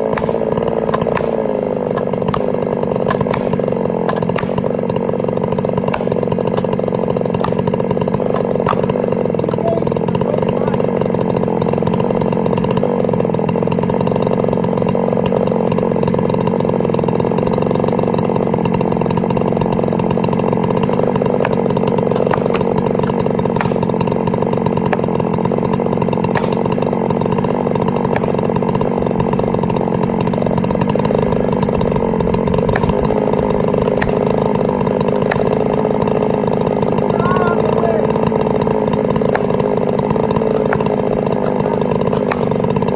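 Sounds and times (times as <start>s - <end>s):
chainsaw cutting tree: 0.0s - 42.9s.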